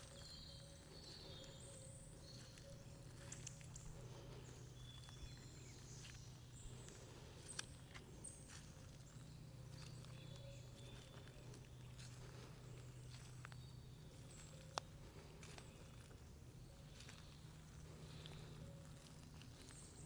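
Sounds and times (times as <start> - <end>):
low steady hum: 0.0 - 20.0
small clicks and crackles: 0.0 - 20.0.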